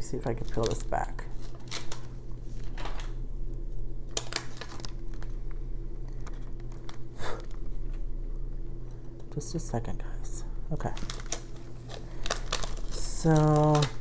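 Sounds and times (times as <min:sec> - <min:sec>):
plastic film crinkling: 0:00.0 - 0:08.0, 0:10.8 - 0:14.0.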